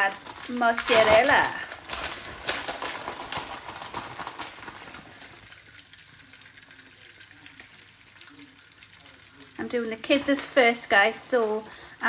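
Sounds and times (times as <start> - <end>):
bread sizzling in frying pan: 0.0 - 12.0.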